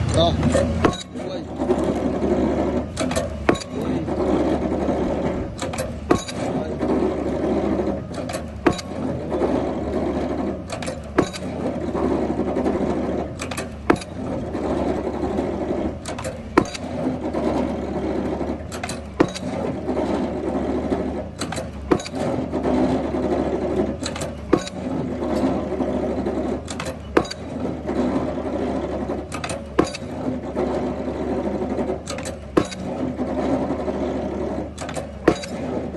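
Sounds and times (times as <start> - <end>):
pile driver hammer striking: 0.0 - 35.9
rig engine running: 0.0 - 35.9.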